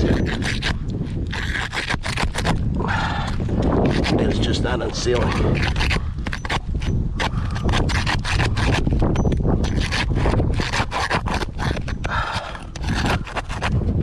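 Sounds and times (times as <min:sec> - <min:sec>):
metal scraper prying shingles: 0:00.0 - 0:02.6, 0:03.6 - 0:14.0.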